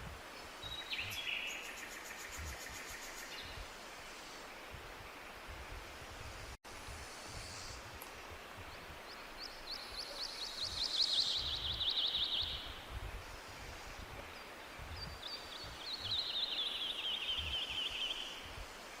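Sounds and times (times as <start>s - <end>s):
steady outdoor hiss: 0.0s - 19.0s
songbird singing: 0.2s - 6.0s, 7.4s - 19.0s.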